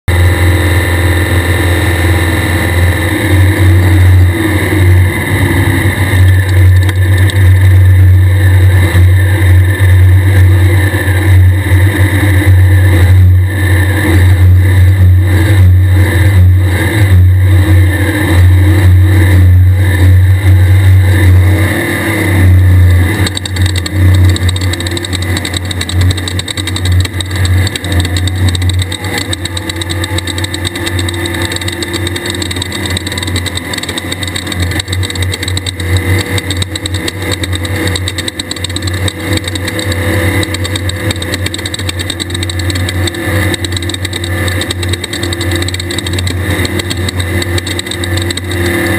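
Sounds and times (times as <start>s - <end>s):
buggy engine running hard: 0.0s - 48.9s.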